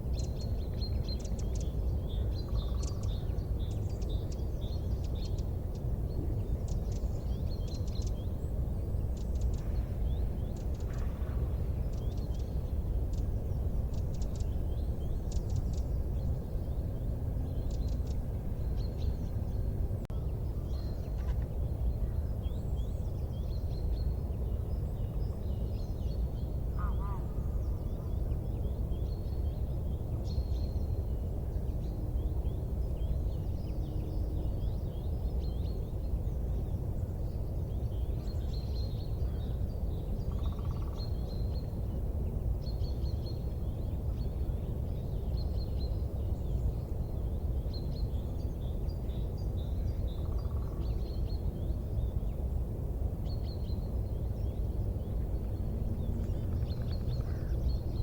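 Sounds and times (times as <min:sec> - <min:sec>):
small birds chirping: 0:00.0 - 0:58.0
low rumbling noise: 0:01.8 - 0:58.0.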